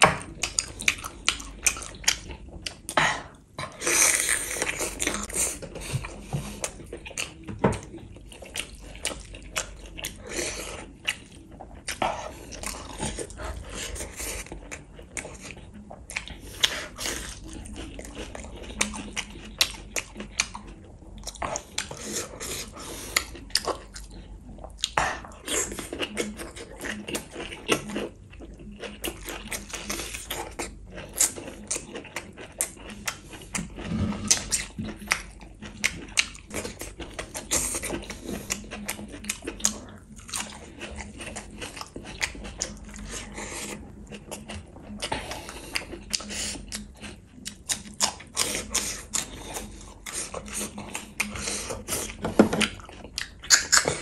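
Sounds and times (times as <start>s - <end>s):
person chewing food: 0.0s - 54.0s
crunch while chewing: 3.7s - 54.0s.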